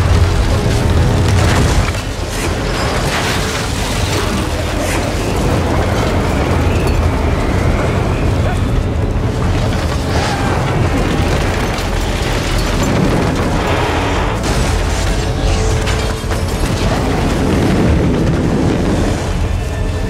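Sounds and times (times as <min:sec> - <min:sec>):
debris knocks: 0:00.0 - 0:19.8
tornado wind with low rumble: 0:00.0 - 0:20.0.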